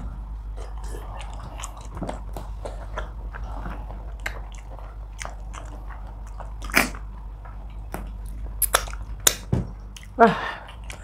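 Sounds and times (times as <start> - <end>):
low steady hum: 0.0 - 11.0
wet chewing and mouth smacks: 0.5 - 11.0.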